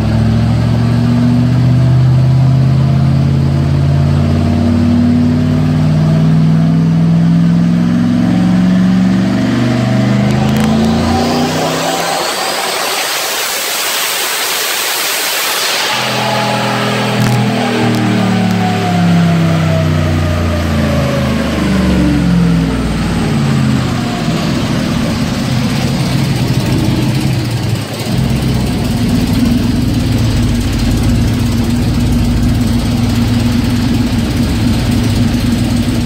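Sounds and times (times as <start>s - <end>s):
engine idling: 0.0s - 36.0s
truck engine winding down: 0.0s - 36.0s.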